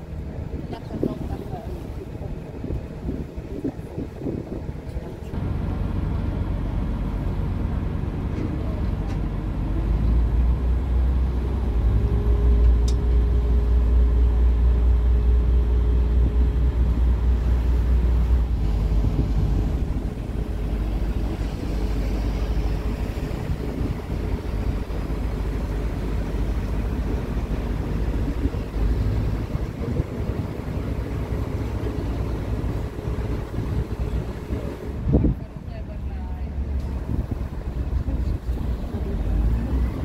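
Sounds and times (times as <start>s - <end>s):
ferry engines droning: 0.0s - 40.0s
wind and water rushing: 0.0s - 40.0s.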